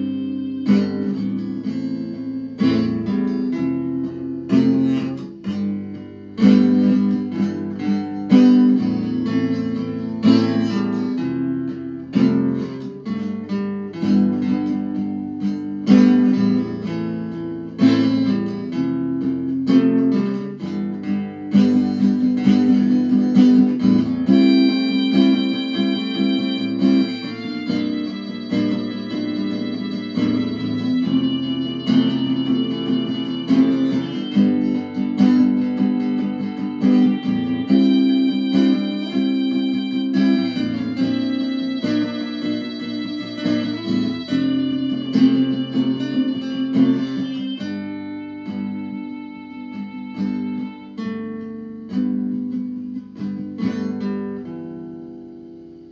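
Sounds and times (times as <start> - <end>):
guitar strumming and plucking: 0.0 - 55.9.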